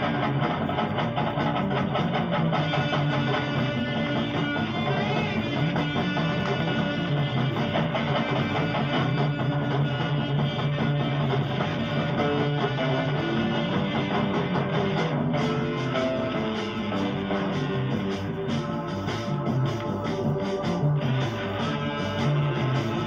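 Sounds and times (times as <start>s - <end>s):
electric guitar: 0.0s - 23.0s
heavy psych rock from vinyl: 0.0s - 23.0s.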